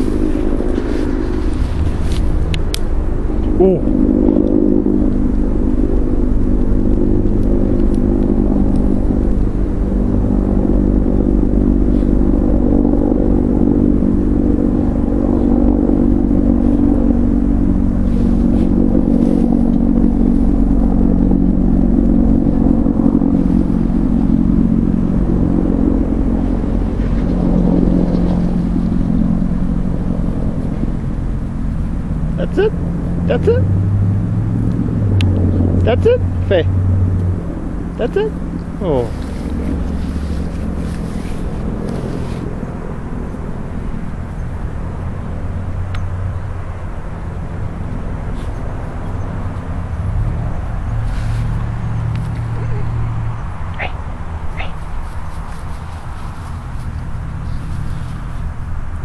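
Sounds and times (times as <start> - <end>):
low hum over rumble: 0.0 - 59.0.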